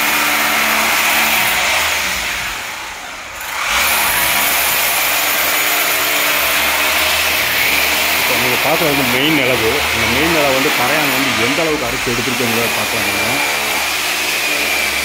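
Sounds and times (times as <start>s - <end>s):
electric drill boring: 0.0s - 15.0s.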